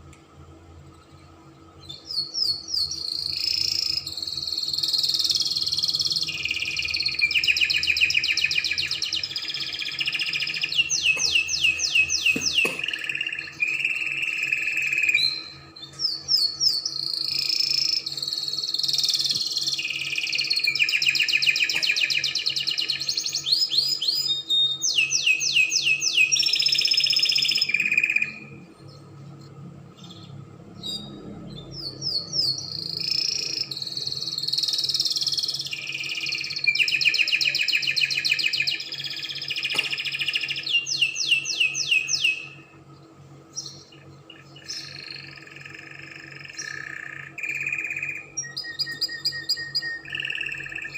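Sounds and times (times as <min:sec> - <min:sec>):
faint low hum: 0:00.0 - 0:50.9
canary singing trills: 0:01.6 - 0:29.2, 0:29.9 - 0:50.9.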